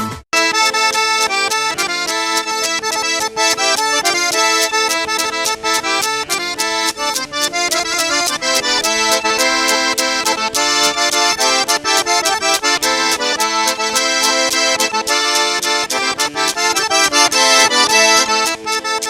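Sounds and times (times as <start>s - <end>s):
accordion playing lively tune: 0.0s - 19.0s.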